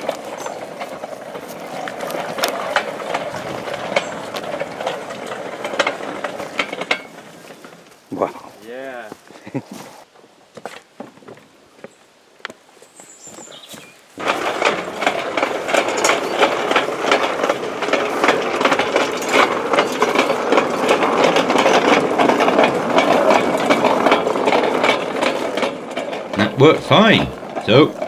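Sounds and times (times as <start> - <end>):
wagon wheels clattering on rails: 0.0 - 28.0.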